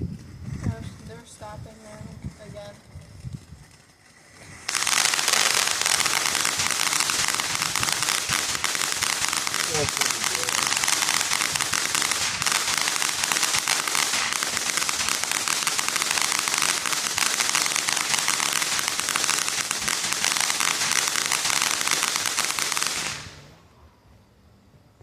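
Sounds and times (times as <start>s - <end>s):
firework fountain hissing crackle: 0.0s - 23.8s.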